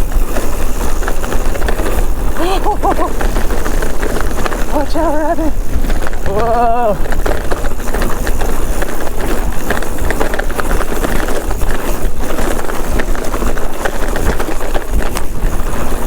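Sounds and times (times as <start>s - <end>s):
bike clattering and rattling: 0.0s - 16.0s
tyres rumbling on dirt: 0.0s - 16.0s
wind rumbling on microphone: 0.0s - 16.0s.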